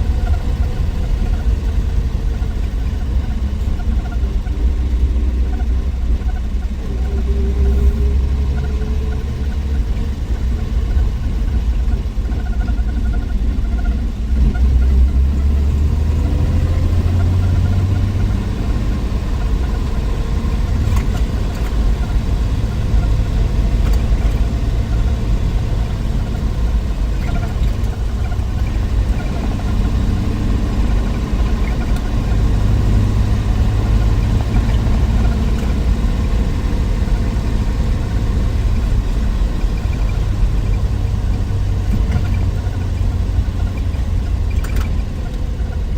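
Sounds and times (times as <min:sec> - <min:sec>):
car engine rumbling: 0:00.0 - 0:45.9.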